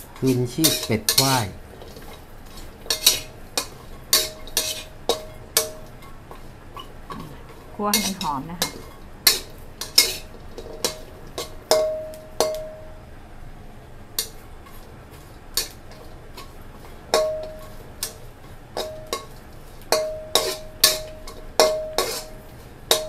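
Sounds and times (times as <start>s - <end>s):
metal spatula scraping a wok: 0.0s - 12.6s, 14.2s - 23.0s.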